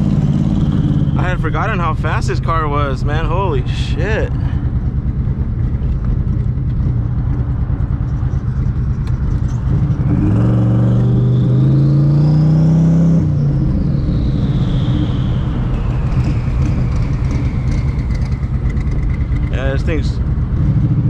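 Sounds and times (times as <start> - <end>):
turbo whine: 0.0 - 20.4
car engine accelerating: 0.0 - 21.0.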